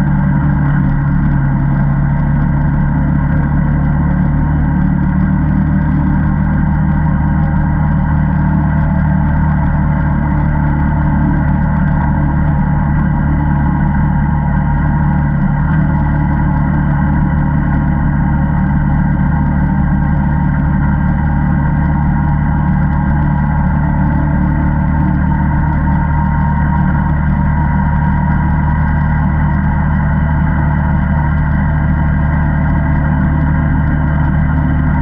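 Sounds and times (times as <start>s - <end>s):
atv engine running steadily: 0.0s - 35.0s.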